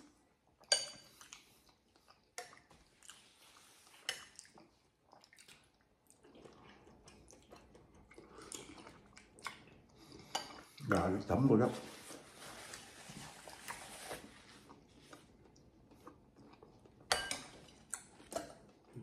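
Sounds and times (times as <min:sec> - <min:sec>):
chewing and wet mouth sounds: 0:00.0 - 0:11.2, 0:12.6 - 0:19.0.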